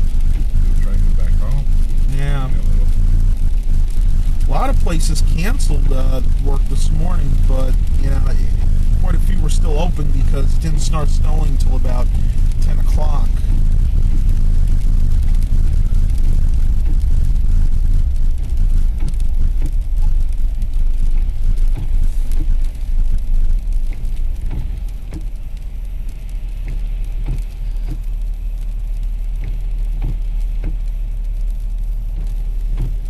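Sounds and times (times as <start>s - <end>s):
car road and engine rumble: 0.0s - 33.0s
light ticks: 2.9s - 33.0s.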